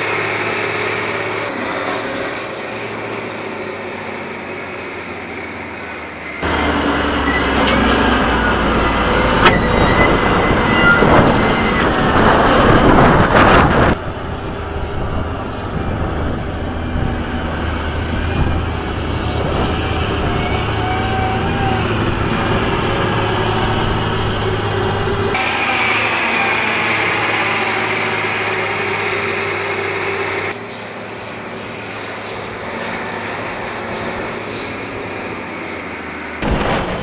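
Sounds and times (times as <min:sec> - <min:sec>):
diesel machinery running: 0:00.0 - 0:37.0.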